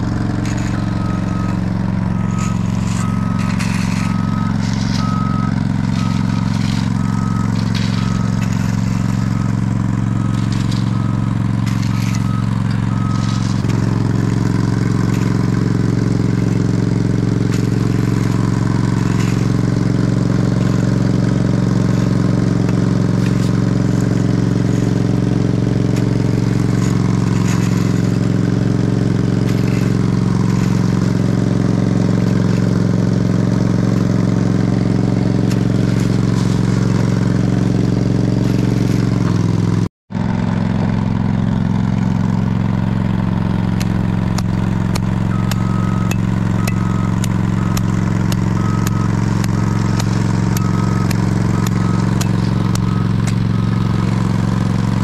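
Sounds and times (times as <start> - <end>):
backup alarm beeping: 0.0 - 39.6, 44.4 - 54.9
diesel engine running: 0.0 - 55.0.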